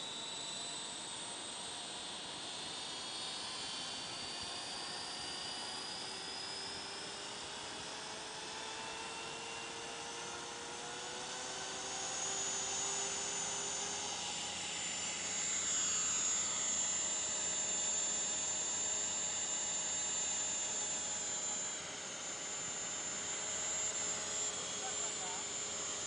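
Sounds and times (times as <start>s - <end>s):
high-pitched whine: 0.0s - 26.0s
model helicopter rotor noise: 0.0s - 26.0s.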